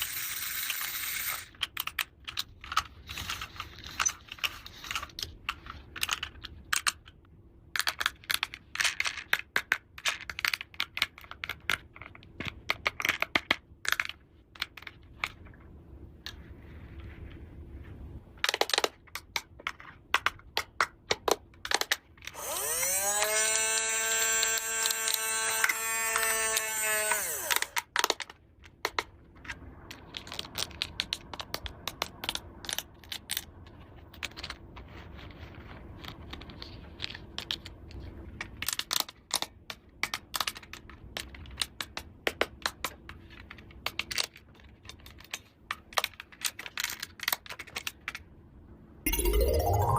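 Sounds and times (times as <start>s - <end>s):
plastic toy pieces clicking: 0.0s - 15.6s, 18.4s - 22.5s, 23.1s - 34.6s, 36.0s - 48.3s.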